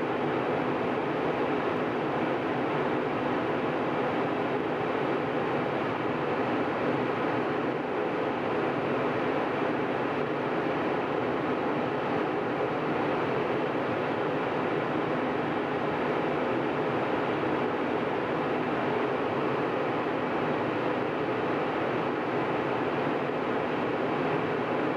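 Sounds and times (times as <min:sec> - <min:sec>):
jet airliner cabin noise: 0:00.0 - 0:24.9.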